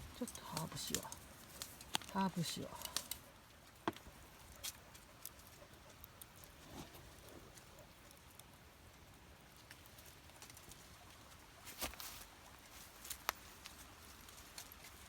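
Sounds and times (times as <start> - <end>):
cooking fire crackling: 0.0 - 15.0.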